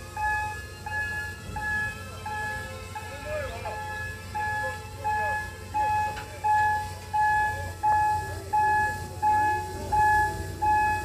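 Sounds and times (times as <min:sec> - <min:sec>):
low steady hum: 0:00.0 - 0:11.0
electronic warning chime: 0:00.1 - 0:11.0.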